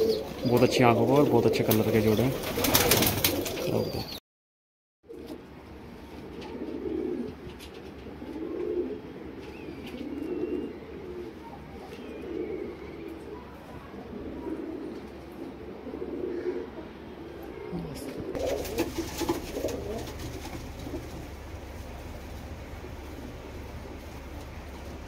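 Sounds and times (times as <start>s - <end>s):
pigeons cooing: 0.0s - 4.2s, 5.1s - 25.0s.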